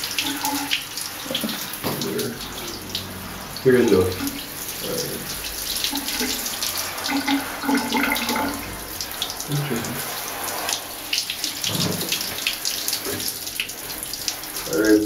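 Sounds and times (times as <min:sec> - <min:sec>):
shower water running on dog fur: 0:00.0 - 0:15.0.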